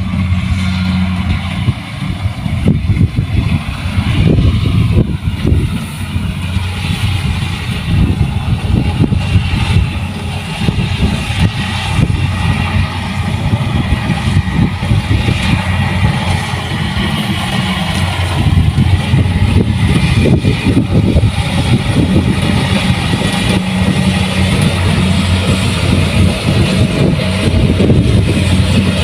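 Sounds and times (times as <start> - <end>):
combine harvester engine droning: 0.0 - 29.0.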